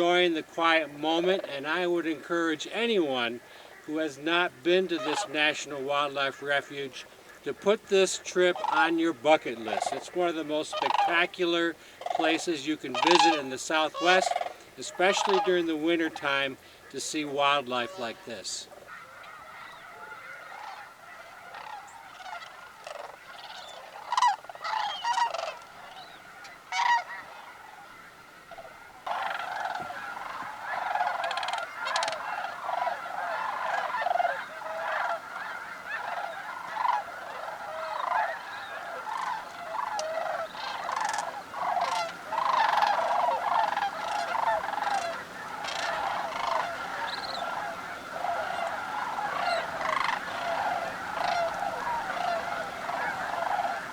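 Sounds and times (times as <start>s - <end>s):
cranes calling: 0.0s - 53.9s.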